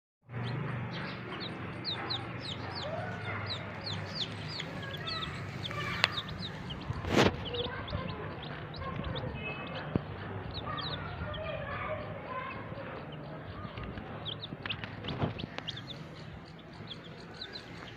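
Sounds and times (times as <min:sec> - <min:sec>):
chicks peeping: 0:00.3 - 0:17.9.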